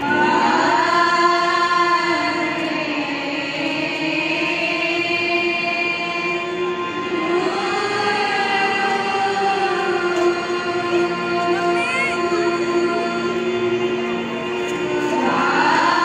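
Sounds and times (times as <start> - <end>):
choir singing devotional song: 0.0 - 16.0
harmoniums: 0.0 - 16.0.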